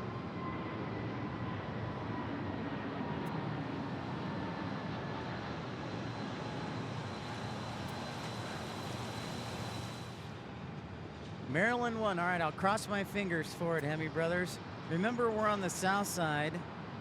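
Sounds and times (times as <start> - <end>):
faint high whine: 0.0 - 17.0
jet engines rushing: 0.0 - 17.0.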